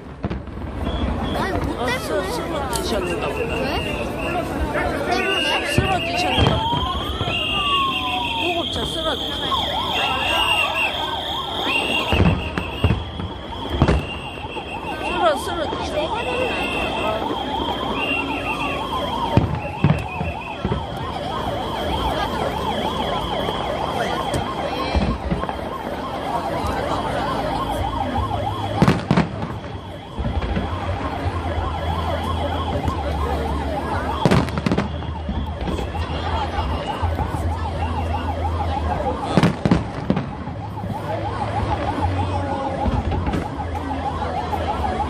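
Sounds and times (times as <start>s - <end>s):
ambulance siren warbling: 0.0s - 45.0s
firework bangs: 0.0s - 45.0s.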